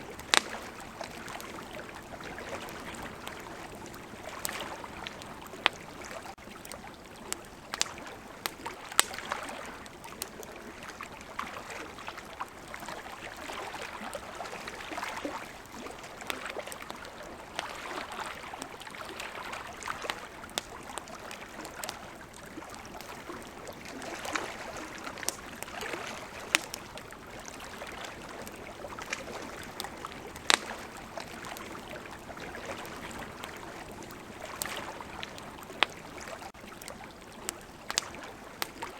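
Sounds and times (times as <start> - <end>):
campfire popping and crackling: 0.0 - 38.9
flowing river water: 0.0 - 38.9.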